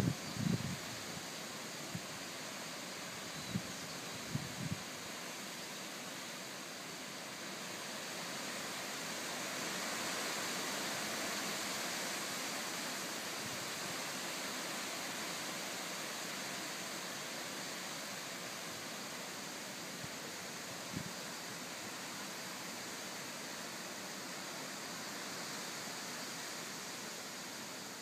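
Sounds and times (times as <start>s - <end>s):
strong wind through trees: 0.0s - 28.0s.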